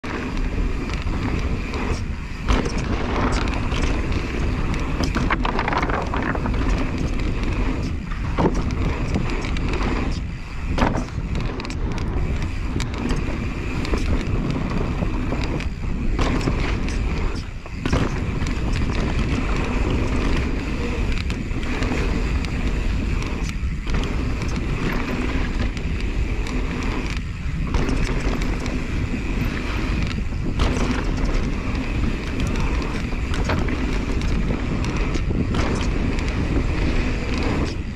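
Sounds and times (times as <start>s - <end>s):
bike knocks and rattles: 0.0s - 37.9s
tyres rushing on dirt: 0.0s - 37.9s
wind on microphone: 0.0s - 37.9s.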